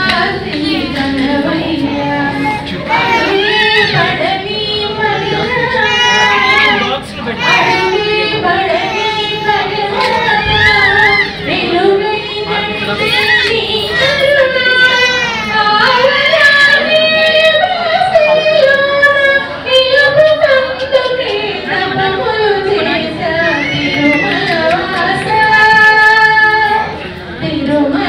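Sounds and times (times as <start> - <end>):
high singing voice: 0.0 - 28.0.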